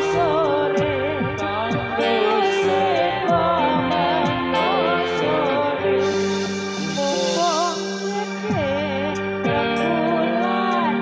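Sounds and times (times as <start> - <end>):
wavering melodic line: 0.0 - 11.0.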